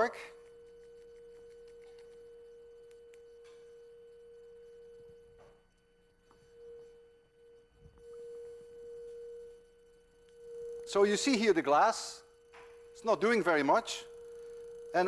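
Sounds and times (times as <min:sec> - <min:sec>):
electronic sine tone: 0:00.0 - 0:15.0.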